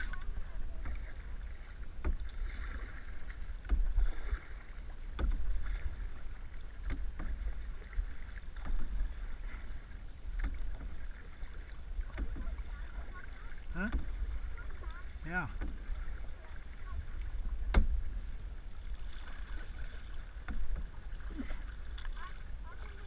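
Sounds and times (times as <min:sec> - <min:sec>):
paddles splashing in water: 0:00.0 - 0:23.0.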